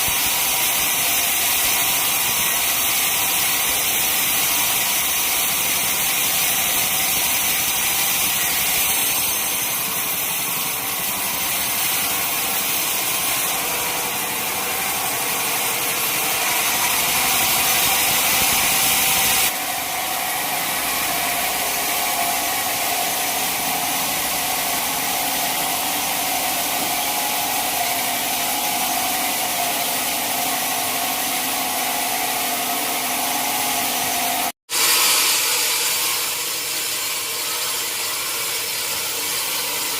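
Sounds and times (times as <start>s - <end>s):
band sawmill hissing and whining: 0.0s - 39.9s.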